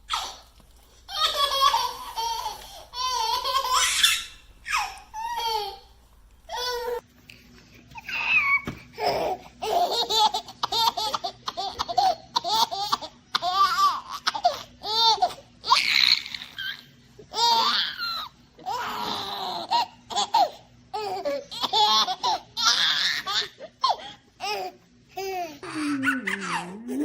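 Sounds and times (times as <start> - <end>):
baby laughing: 0.0 - 0.5, 1.1 - 5.9, 8.0 - 27.0.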